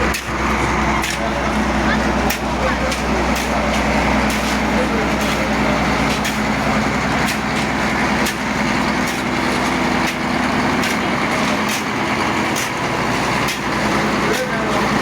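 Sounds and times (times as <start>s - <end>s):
sharp clicks and knocks: 0.0s - 1.5s, 2.2s - 14.6s
engine running: 0.0s - 15.0s.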